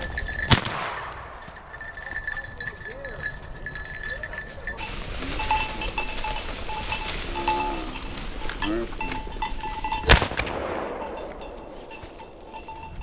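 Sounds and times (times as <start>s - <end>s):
dog collar bell jingling: 0.0s - 10.1s, 11.0s - 13.0s.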